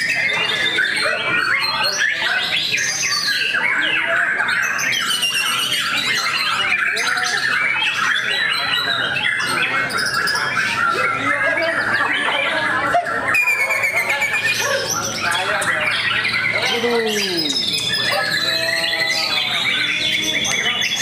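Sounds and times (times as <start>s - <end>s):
bird singing whistles and trills: 0.0s - 12.6s, 13.3s - 21.0s
songbirds chorus: 0.0s - 21.0s.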